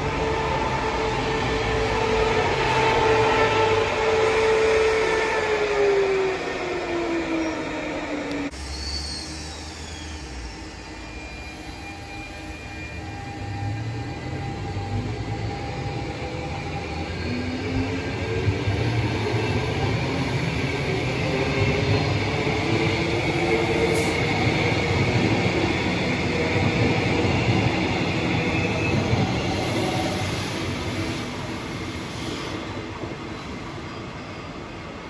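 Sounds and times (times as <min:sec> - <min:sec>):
electric train running past: 0:00.0 - 0:35.0.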